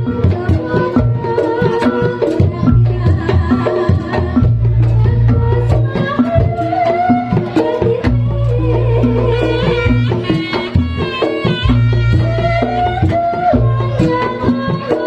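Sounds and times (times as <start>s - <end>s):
hand drums beating quickly: 0.0s - 15.0s.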